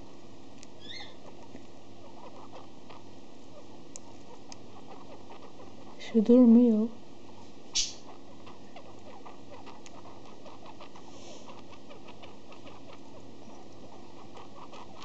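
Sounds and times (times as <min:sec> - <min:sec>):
budgie squeaking and clicking: 0:00.6 - 0:06.1, 0:07.3 - 0:15.0.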